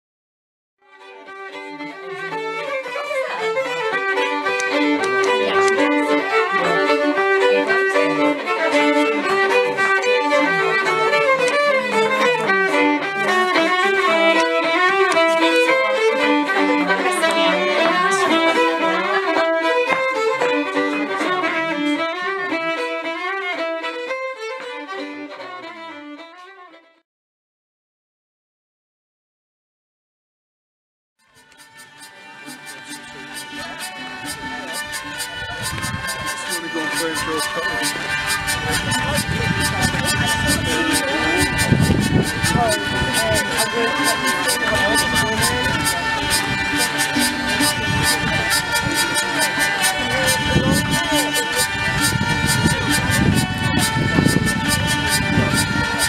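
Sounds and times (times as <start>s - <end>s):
two fiddles playing a duet: 0.8s - 27.0s, 31.2s - 56.0s.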